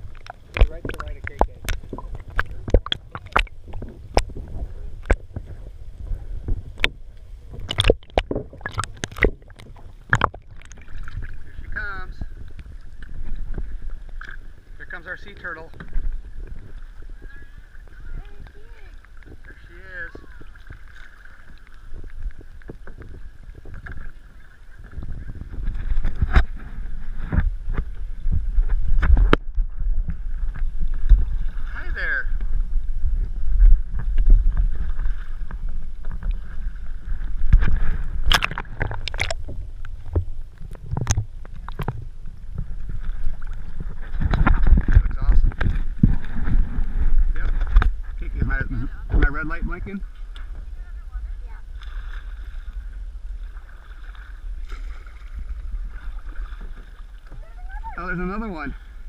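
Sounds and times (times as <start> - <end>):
paddle splashing water: 0.0 - 59.0
steady low rumble: 0.0 - 59.0.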